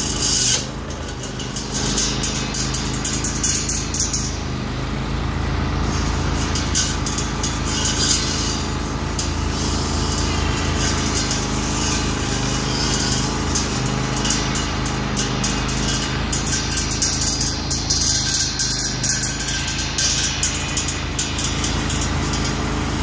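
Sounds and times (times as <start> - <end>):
riding mower engine running: 0.0 - 23.0
saw blade hissing through brush: 0.0 - 23.0.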